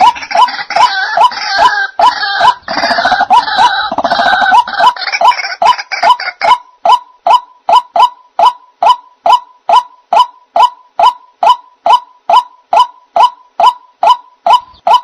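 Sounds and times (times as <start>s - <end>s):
waterhen hoarse repeated call: 0.0s - 15.0s.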